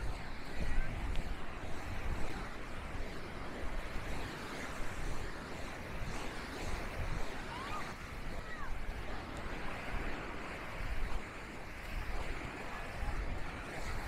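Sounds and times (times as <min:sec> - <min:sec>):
sea waves washing onto beach: 0:00.0 - 0:14.0
wind buffeting microphone: 0:00.0 - 0:14.0.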